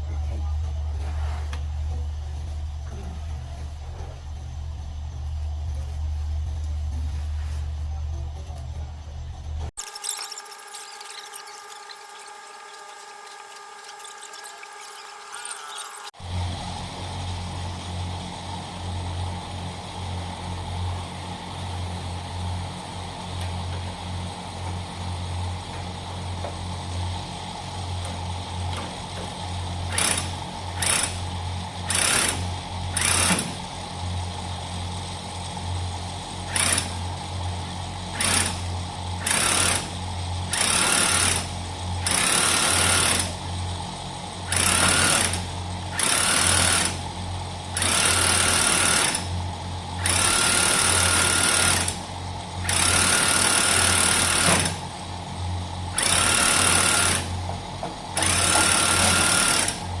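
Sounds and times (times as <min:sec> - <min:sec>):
pressure sprayer motor running: 0:00.0 - 1:00.0.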